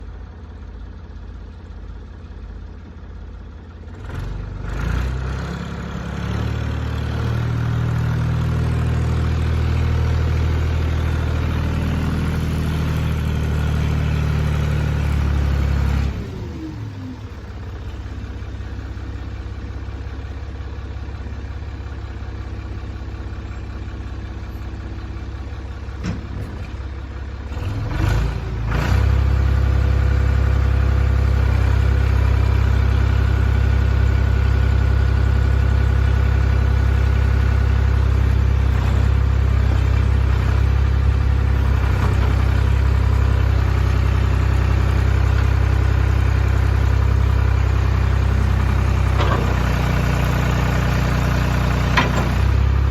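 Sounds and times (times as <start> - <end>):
diesel engine idling and revving: 0.0 - 52.9.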